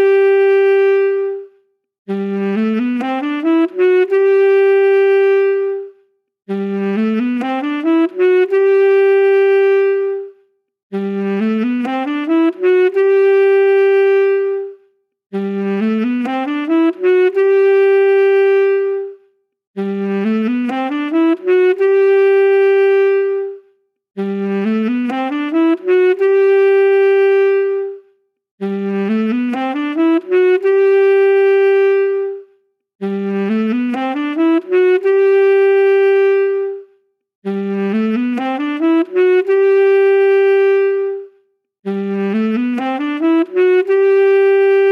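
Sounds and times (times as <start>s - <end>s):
solo saxophone phrase: 0.0s - 44.9s.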